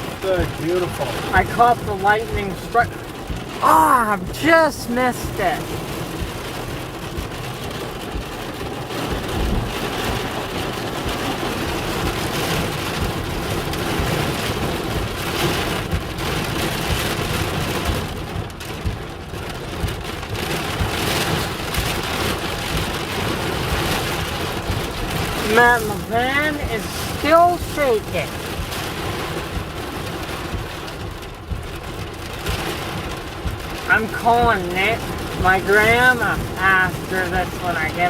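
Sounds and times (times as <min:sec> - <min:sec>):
heavy rain pelting a van: 0:00.0 - 0:38.0
strong wind gusts buffeting: 0:00.0 - 0:38.0.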